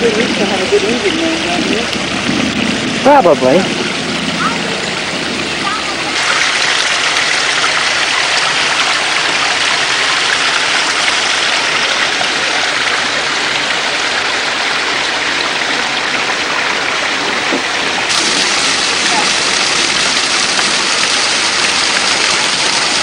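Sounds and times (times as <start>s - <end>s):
waterfall pouring and splashing: 0.0s - 23.0s.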